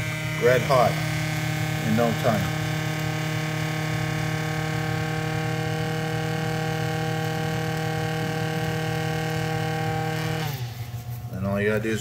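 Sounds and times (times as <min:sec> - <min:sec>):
induction heater electric hum: 0:00.0 - 0:12.0.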